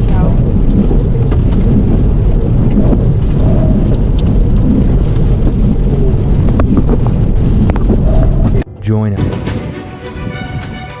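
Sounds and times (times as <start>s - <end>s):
storm wind on microphone: 0.0s - 11.0s.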